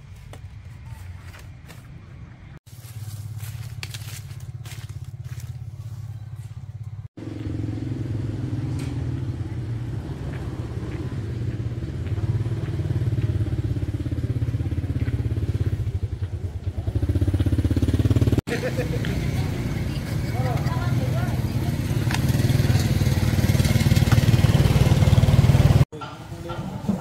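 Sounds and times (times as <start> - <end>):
small motorcycle engine running: 2.8 - 25.8.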